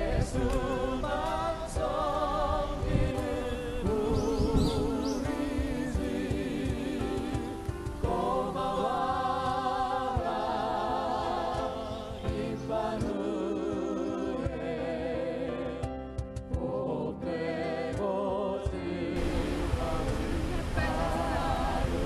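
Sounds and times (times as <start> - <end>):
choir singing held notes: 0.0 - 22.0.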